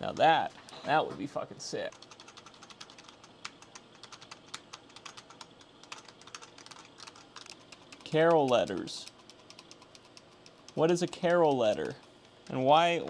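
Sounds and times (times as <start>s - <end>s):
computer keyboard typing: 1.8s - 12.6s.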